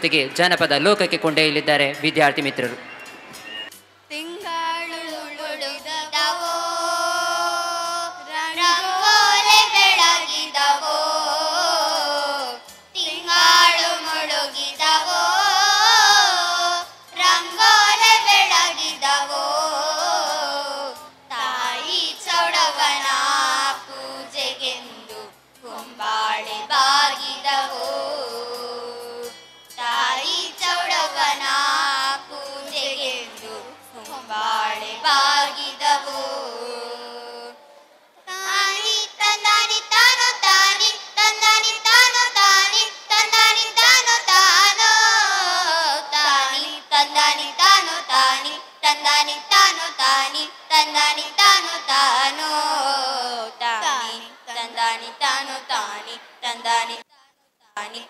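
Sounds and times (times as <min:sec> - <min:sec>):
children singing through microphones: 0:01.3 - 0:57.1, 0:57.8 - 0:58.0.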